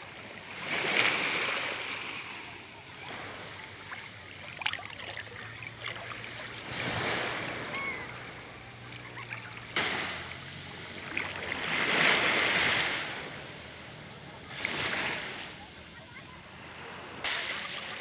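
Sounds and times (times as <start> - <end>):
small waves washing in: 0.0 - 18.0.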